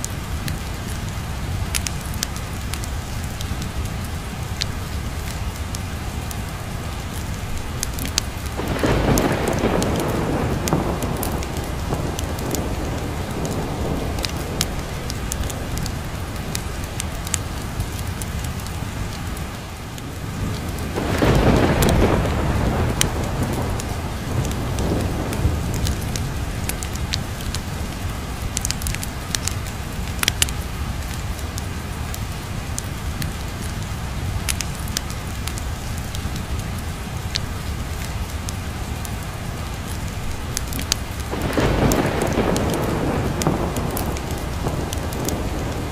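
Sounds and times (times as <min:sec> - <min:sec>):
thunder rumbling: 0:00.0 - 0:38.5, 0:39.8 - 0:45.9
steady rain: 0:00.0 - 0:45.9.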